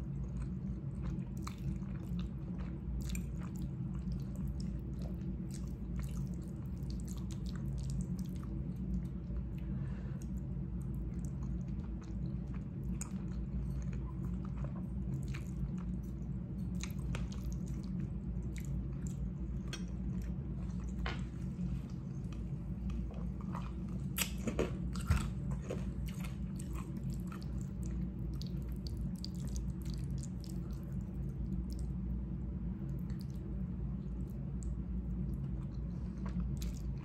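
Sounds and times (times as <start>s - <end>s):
chewing with wet smacks: 0.0s - 37.0s
steady low hum: 0.0s - 37.0s.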